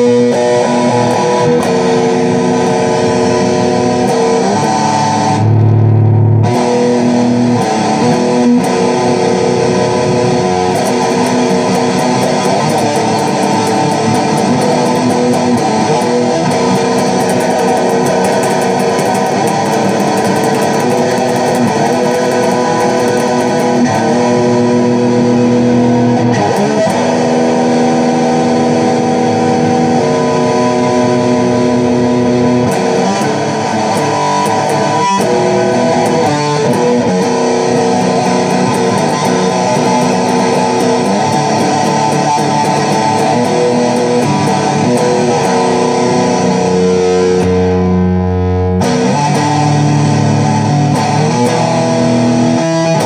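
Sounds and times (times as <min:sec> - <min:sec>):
electric guitar strumming chords: 0:00.0 - 0:53.0.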